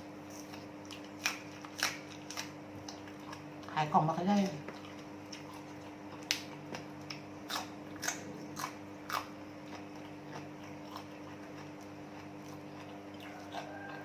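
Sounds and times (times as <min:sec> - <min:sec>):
person chewing crunchy food: 0:00.0 - 0:03.8, 0:04.5 - 0:14.0.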